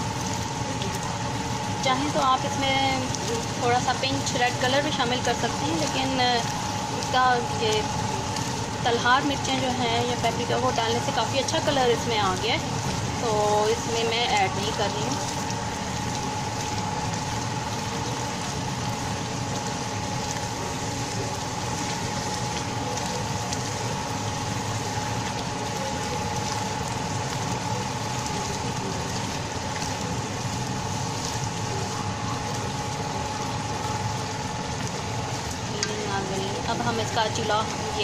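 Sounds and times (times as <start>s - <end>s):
sauce sizzling in a frying pan: 0.0s - 38.0s.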